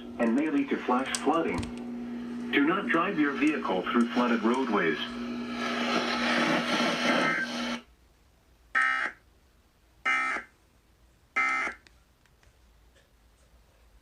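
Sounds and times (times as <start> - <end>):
broadcast static with low hum: 0.0 - 14.0.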